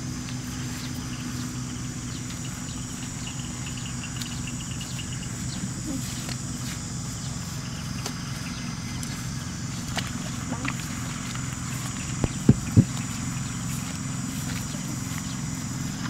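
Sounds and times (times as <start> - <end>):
insects buzzing: 0.0 - 16.0
low steady hum: 0.0 - 16.0.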